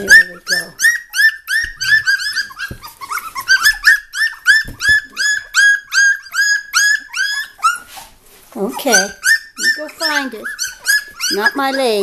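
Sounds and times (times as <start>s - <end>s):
puppies squealing and whining: 0.0s - 12.0s.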